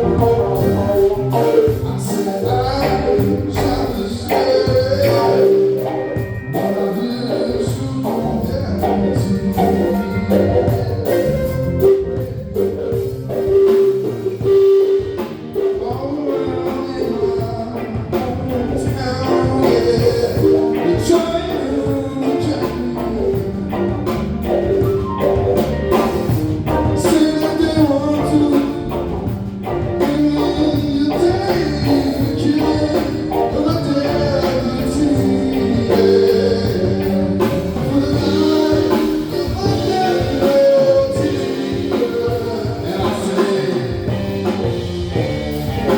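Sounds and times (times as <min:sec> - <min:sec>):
live band with drums and guitar: 0:00.0 - 0:45.9
person singing: 0:00.0 - 0:45.9.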